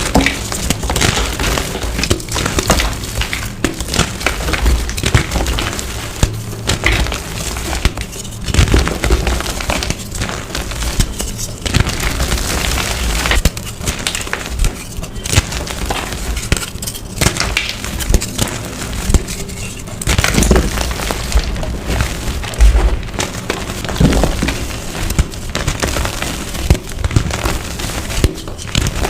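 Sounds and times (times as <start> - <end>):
chalk blocks crunching: 0.0 - 29.0.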